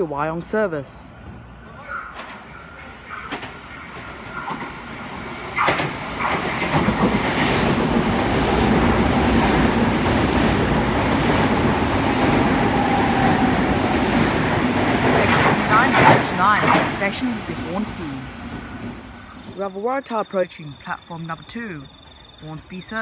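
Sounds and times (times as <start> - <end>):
train passing at speed: 0.5 - 19.8.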